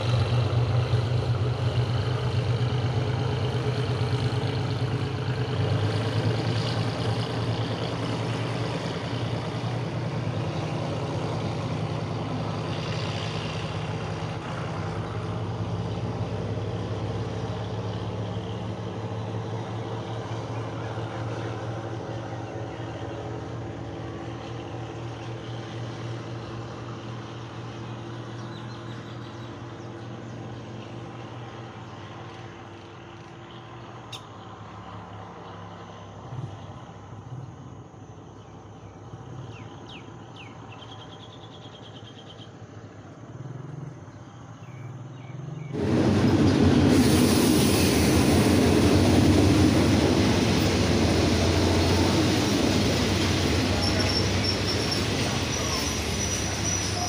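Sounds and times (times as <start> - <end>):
train coaches rumbling: 0.0 - 36.3, 45.7 - 57.0
diesel locomotive engine drone: 0.0 - 57.0.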